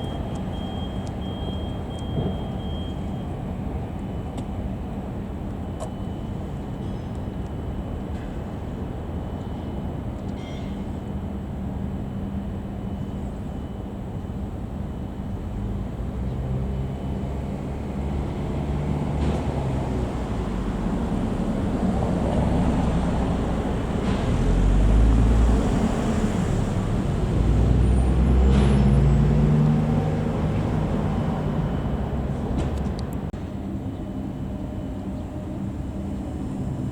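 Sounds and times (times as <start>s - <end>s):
diesel locomotive engine hum: 0.0s - 36.9s.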